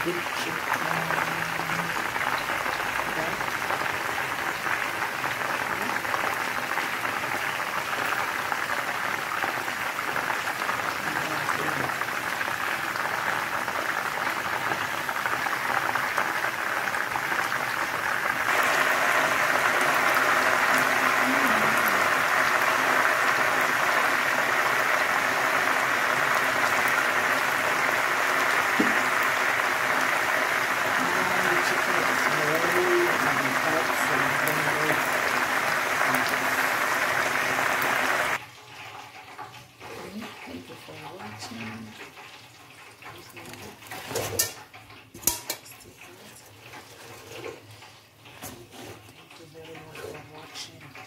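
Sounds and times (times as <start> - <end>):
chicken sizzling in hot oil: 0.0 - 51.0.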